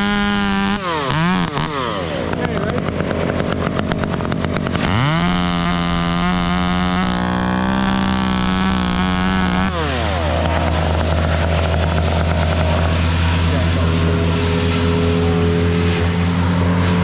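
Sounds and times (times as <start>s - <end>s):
chainsaw engine revving: 0.0s - 17.0s
low engine drone: 0.0s - 17.0s.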